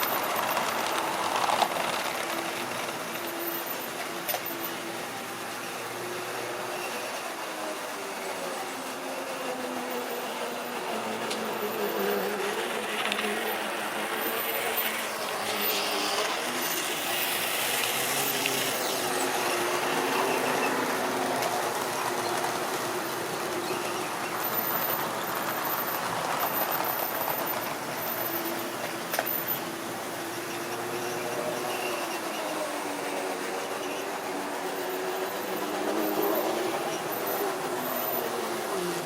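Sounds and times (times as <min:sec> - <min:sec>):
model train motor hum: 0:00.0 - 0:39.0
wheel and track noise: 0:00.0 - 0:39.0.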